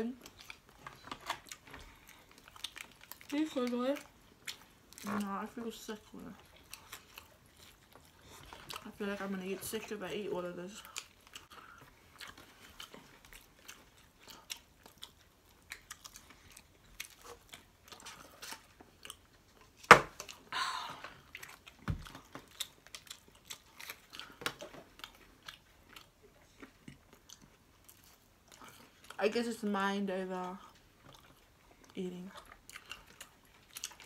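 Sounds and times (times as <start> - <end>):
chewing and crunching: 0.0 - 34.0.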